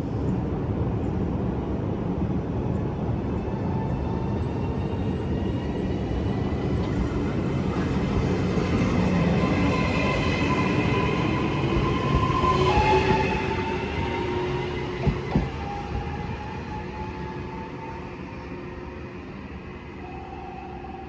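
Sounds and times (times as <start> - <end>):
train passing: 0.5 - 21.0.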